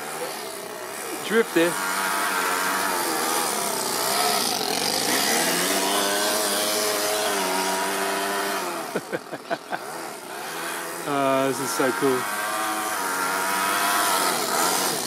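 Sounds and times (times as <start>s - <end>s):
model car engine revving: 0.0s - 15.0s.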